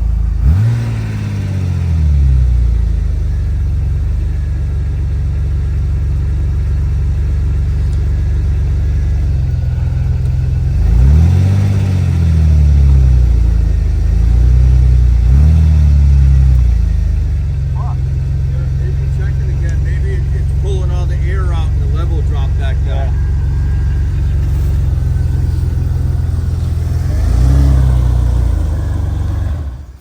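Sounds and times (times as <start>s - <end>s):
car engine revs flaring: 0.0s - 30.0s.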